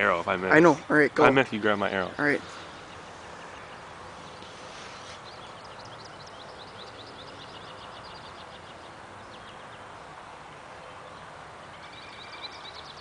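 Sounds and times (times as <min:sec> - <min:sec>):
outdoor background hiss: 0:00.0 - 0:13.0
songbird chirping: 0:00.0 - 0:13.0.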